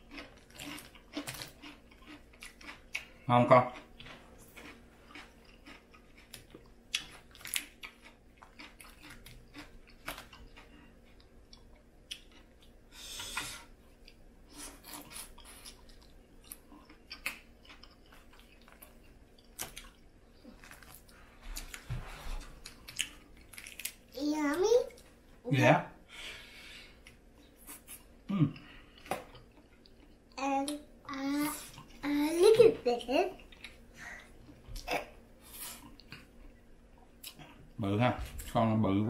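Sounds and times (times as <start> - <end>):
chewing: 0.0 - 24.0, 27.0 - 30.8, 33.4 - 37.8.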